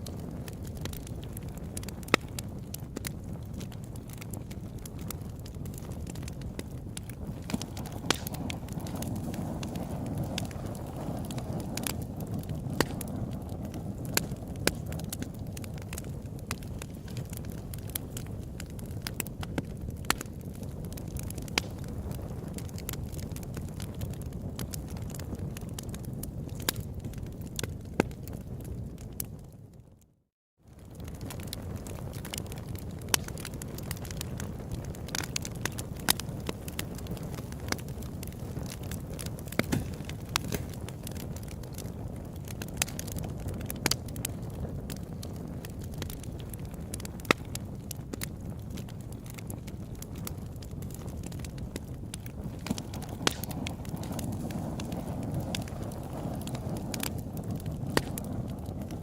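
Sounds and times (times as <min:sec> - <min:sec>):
campfire crackling and popping: 0:00.0 - 0:59.0
low fire rumble: 0:00.0 - 0:59.0.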